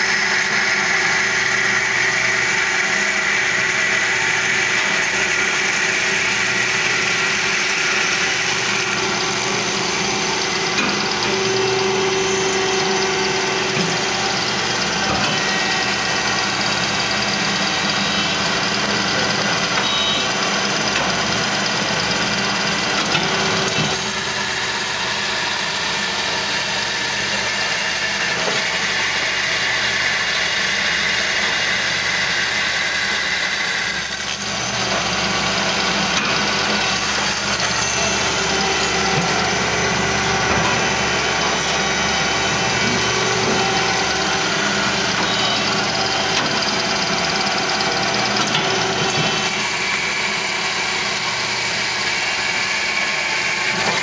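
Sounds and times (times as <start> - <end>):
bandsaw hum: 0.0 - 54.0.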